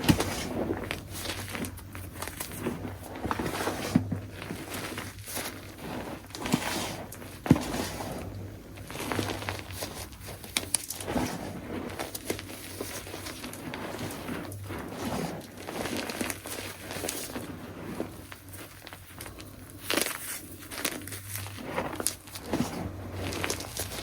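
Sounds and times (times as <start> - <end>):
chalk being crushed: 0.0 - 24.0.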